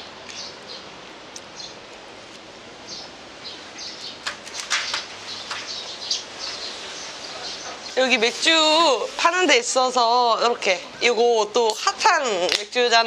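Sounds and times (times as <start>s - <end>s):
small birds chirping: 0.0s - 2.0s, 2.8s - 12.1s.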